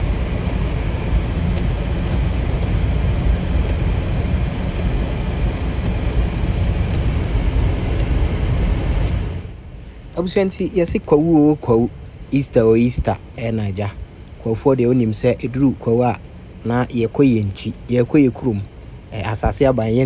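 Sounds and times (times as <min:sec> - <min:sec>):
car road and wind noise: 0:00.0 - 0:20.0.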